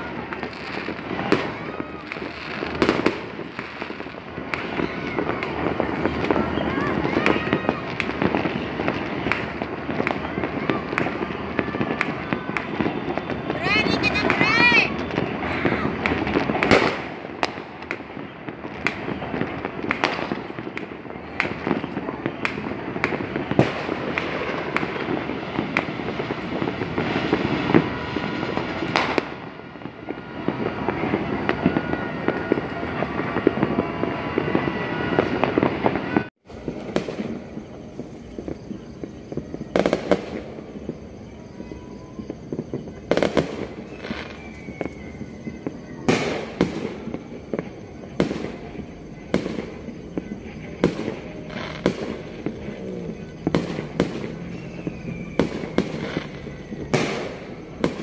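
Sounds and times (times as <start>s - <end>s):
distant fireworks crackling: 0.0s - 58.0s
single firework bangs: 0.0s - 58.0s.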